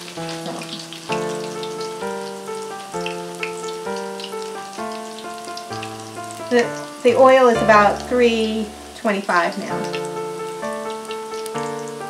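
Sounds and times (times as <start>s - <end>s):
background music with held chords: 0.0s - 12.0s
food frying in hot oil: 0.0s - 12.0s.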